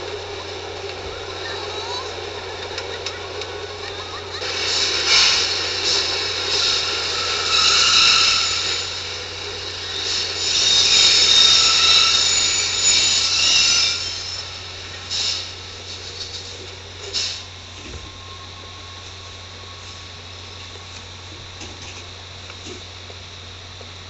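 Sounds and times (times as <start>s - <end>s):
subway wheels squealing: 0.0s - 21.8s
train rumble: 0.0s - 24.0s.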